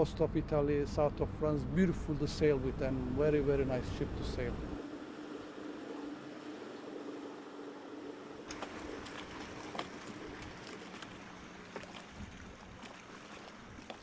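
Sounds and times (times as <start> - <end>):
faint steady hum: 0.0 - 14.0
wash of noise: 1.0 - 14.0.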